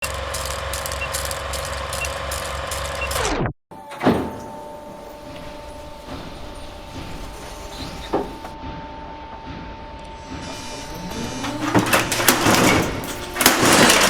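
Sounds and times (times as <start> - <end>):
mechanical hum with ticking: 0.0 - 14.0.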